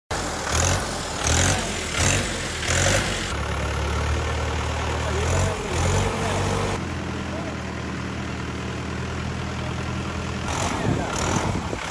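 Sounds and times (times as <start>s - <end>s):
tractor engine running: 0.1s - 11.9s.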